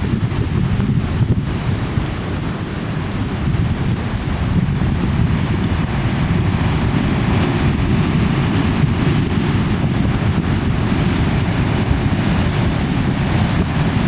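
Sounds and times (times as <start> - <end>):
ocean waves breaking: 0.0 - 14.0
strong wind buffeting microphone: 0.0 - 14.0.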